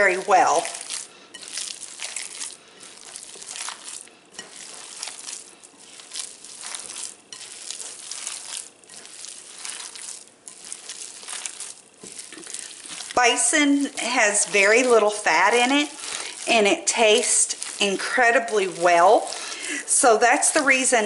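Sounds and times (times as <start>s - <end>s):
wet squishing of kneaded meat: 0.0s - 20.9s.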